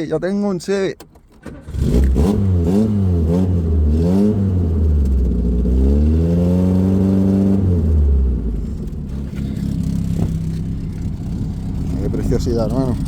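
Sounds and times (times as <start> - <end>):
car engine revving: 1.4 - 13.0.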